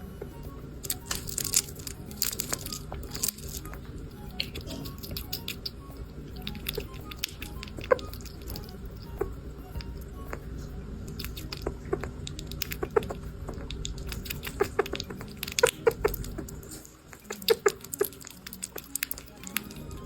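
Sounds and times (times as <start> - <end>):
pet crunching a hard snack: 0.8 - 10.4, 11.0 - 20.0.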